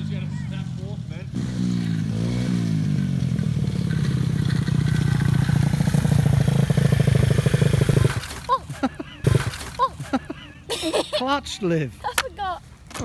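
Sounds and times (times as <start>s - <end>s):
dirt bike engine revving: 0.0s - 10.4s.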